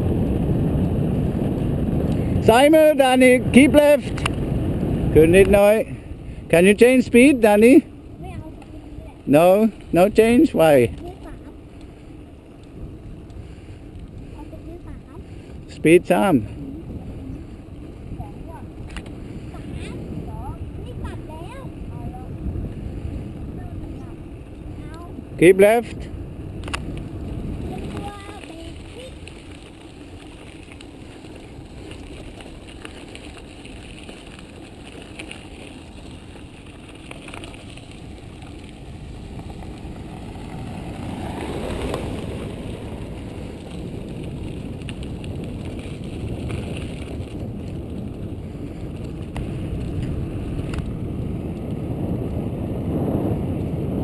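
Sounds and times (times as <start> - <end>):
bicycle tyre road noise: 0.0 - 54.0
wind on microphone: 0.0 - 54.0.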